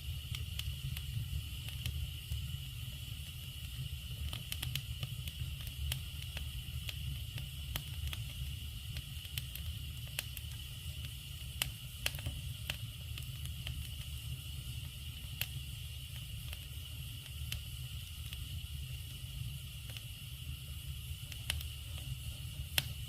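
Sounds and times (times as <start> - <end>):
steady hiss and rumble: 0.0 - 23.0
wood fire crackling: 0.0 - 23.0.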